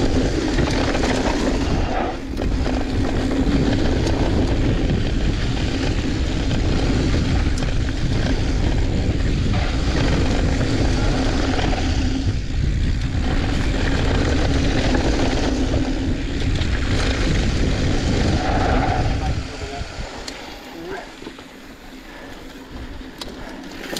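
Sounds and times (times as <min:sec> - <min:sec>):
tyres rolling over dirt: 0:00.0 - 0:20.2
wind buffeting microphone: 0:00.0 - 0:20.8.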